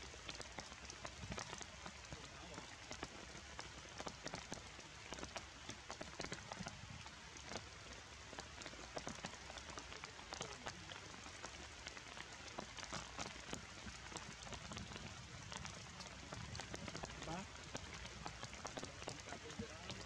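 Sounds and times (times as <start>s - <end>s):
rain pattering on leaves: 0.0s - 20.0s.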